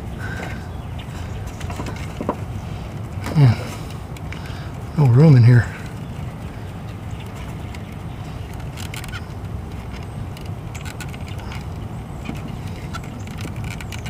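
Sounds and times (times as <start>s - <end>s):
hose rubbing and clicking: 0.0s - 4.7s, 7.2s - 14.0s.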